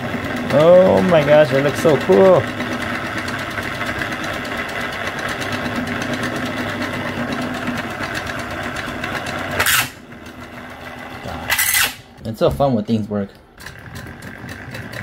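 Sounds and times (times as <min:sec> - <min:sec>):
small motor driving plastic gears: 0:00.0 - 0:12.2, 0:13.4 - 0:15.0.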